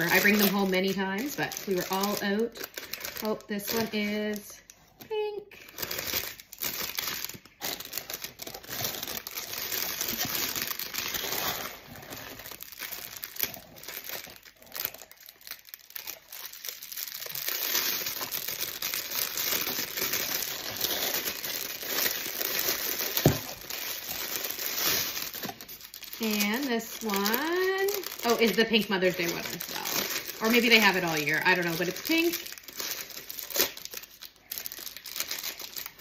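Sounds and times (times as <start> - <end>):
cellophane and paper crinkling: 0.0 - 36.0.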